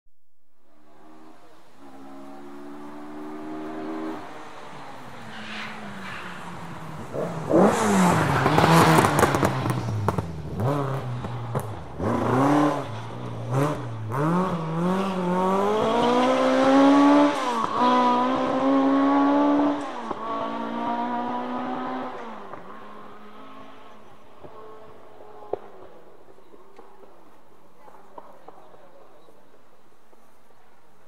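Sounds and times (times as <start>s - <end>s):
rally car engine revving: 0.8s - 25.9s.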